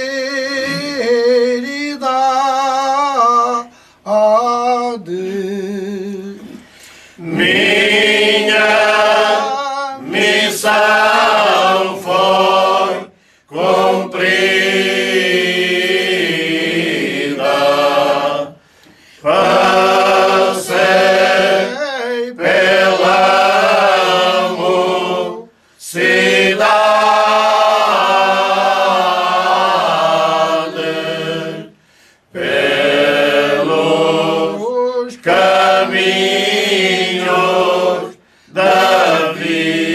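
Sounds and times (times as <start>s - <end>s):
men's choir singing unaccompanied: 0.0s - 6.6s, 7.2s - 18.6s, 19.2s - 39.9s.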